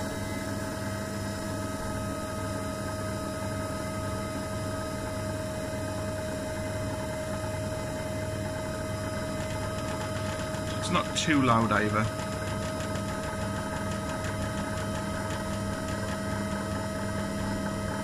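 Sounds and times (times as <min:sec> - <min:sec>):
disc repair machine motor hum: 0:00.0 - 0:18.0.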